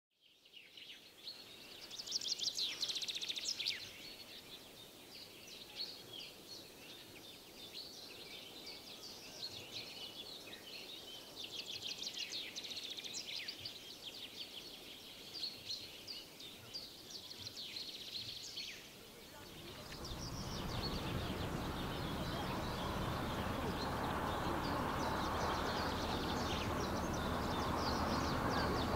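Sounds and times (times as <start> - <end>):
songbirds chirping and trilling: 0.5 - 28.9
light outdoor hiss: 1.1 - 28.9.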